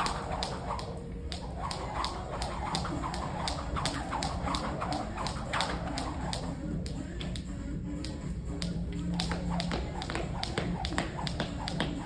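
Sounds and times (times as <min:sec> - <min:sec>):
jump rope slapping floor: 0:00.0 - 0:12.0
steady low hum: 0:00.0 - 0:12.0.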